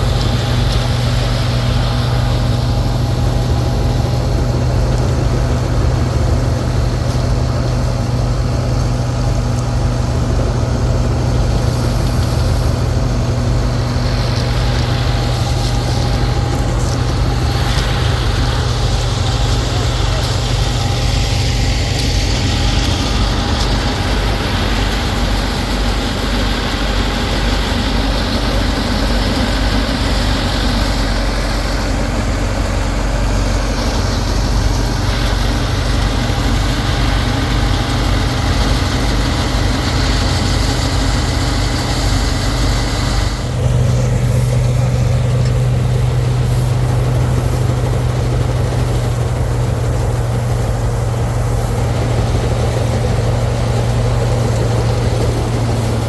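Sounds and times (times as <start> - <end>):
combine harvester engine hum: 0.0 - 56.0
harvesting machinery noise: 0.0 - 56.0.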